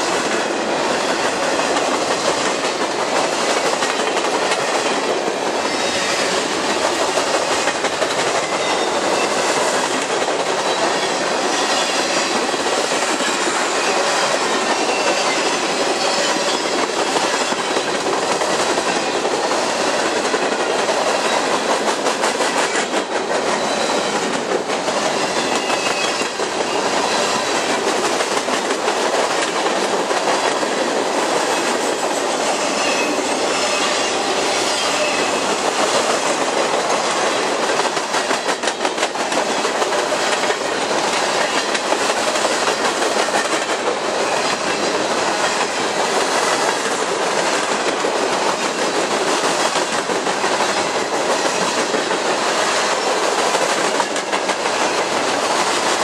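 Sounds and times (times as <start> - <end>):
freight train rolling past: 0.0 - 56.0
wheels clacking over rail joints: 0.0 - 56.0.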